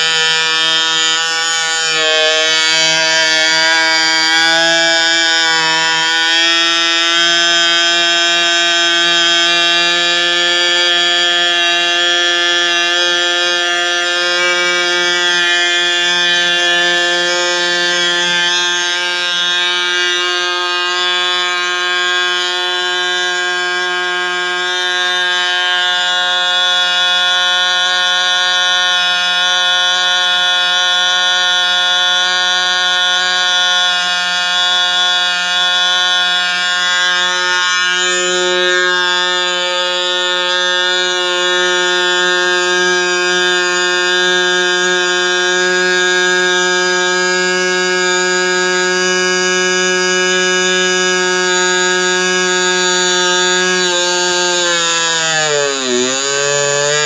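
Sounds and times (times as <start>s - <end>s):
model engine high buzzing: 0.0s - 57.0s.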